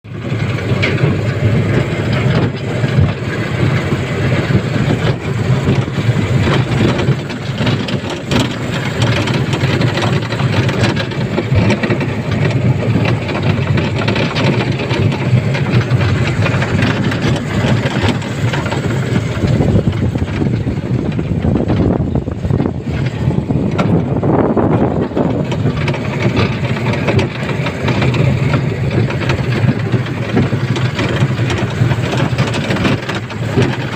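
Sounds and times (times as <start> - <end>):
elevated train rumbling: 0.0 - 33.9.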